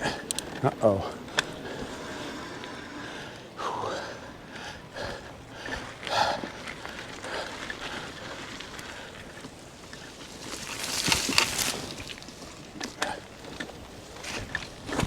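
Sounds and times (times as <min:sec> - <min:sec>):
bike tyres on dirt trail: 0:00.0 - 0:15.0.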